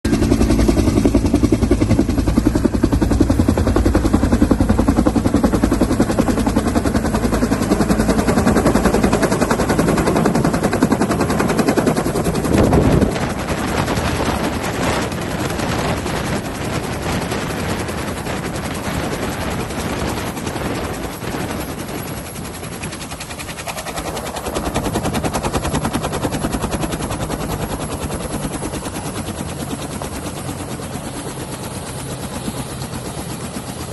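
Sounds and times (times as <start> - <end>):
helicopter rotor blades chopping: 0.1 - 33.9.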